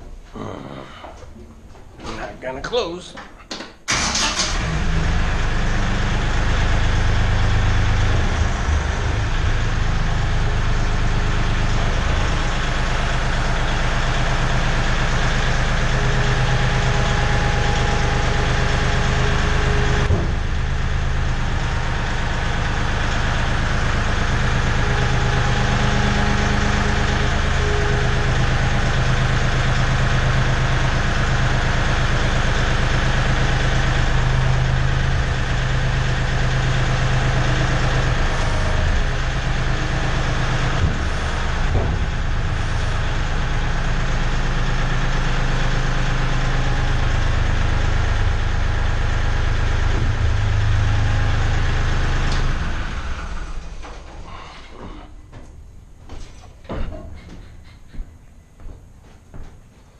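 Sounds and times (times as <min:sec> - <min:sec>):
tractor diesel engine running: 0:03.9 - 0:55.0.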